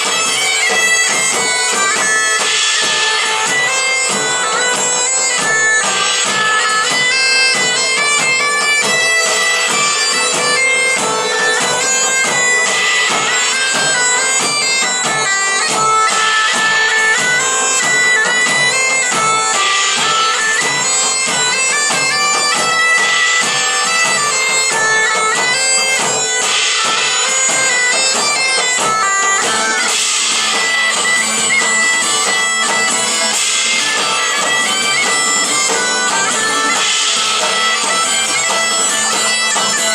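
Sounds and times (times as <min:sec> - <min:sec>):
bagpipes playing a melody: 0:00.0 - 0:39.9
drum beat: 0:00.0 - 0:39.9.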